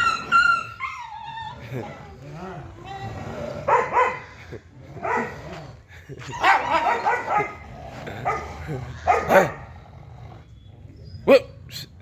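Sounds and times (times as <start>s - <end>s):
dogs barking and yelping: 0.0s - 12.0s.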